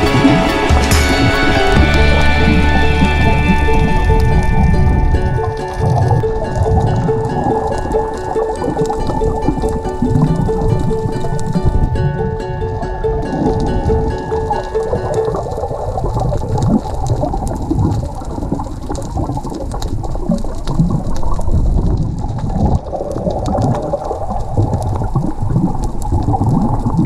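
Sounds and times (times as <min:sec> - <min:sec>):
underwater water rushing: 0:00.0 - 0:27.0
sharp underwater clicks and crackles: 0:03.6 - 0:12.0, 0:13.1 - 0:27.0.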